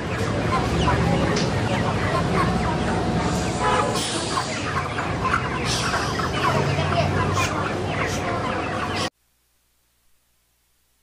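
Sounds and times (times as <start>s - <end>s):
chickens clucking and peeping: 0.0s - 9.1s.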